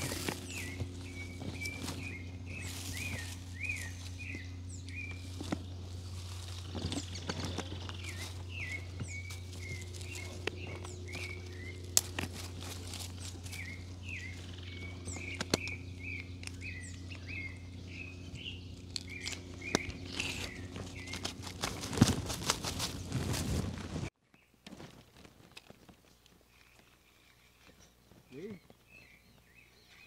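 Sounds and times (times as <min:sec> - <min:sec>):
rustling: 0:00.0 - 0:15.6, 0:18.8 - 0:28.2
bird chirping: 0:00.0 - 0:22.2, 0:26.5 - 0:30.0
steady low hum: 0:00.0 - 0:24.1.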